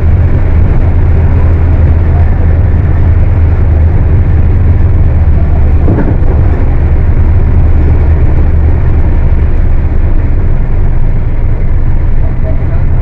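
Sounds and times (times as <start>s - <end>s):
bus diesel engine droning: 0.0s - 13.0s.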